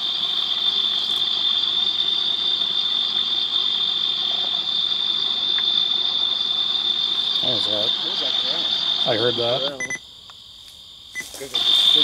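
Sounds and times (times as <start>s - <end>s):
high-pitched recorder hiss: 0.0s - 12.0s.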